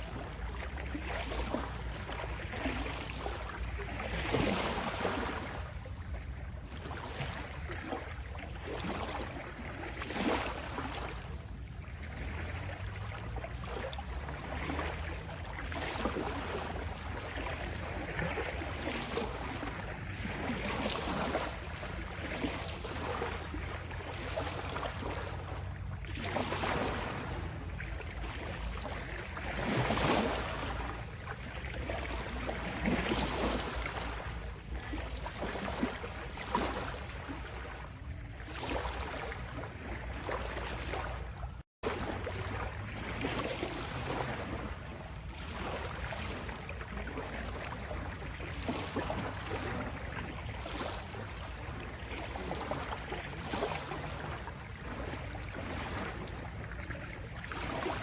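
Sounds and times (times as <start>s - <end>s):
waves lapping at shore: 0.0s - 58.0s.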